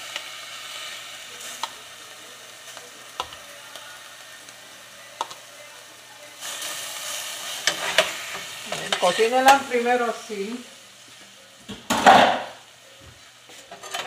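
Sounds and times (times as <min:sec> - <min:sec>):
meat sizzling in oil: 0:00.0 - 0:13.7.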